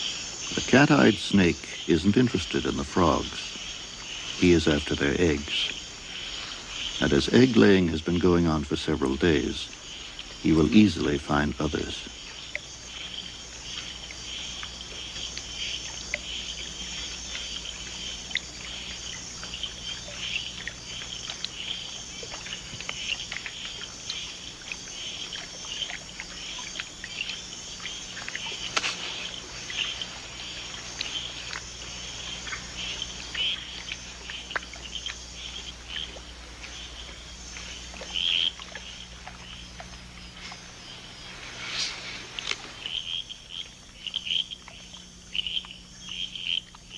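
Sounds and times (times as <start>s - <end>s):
insects and frogs trilling: 0.0s - 46.9s.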